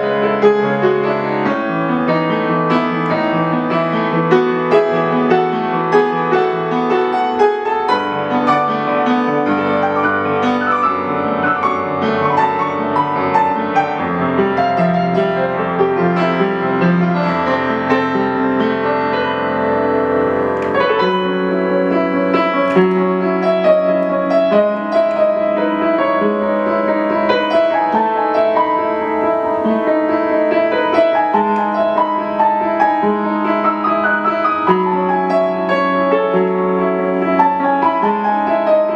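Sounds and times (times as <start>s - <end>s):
slow solo piano piece: 0.0s - 38.9s.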